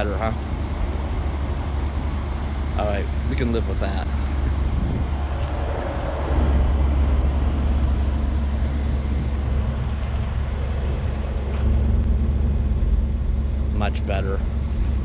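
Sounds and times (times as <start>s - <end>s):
engine exhaust rumble: 0.0s - 15.0s.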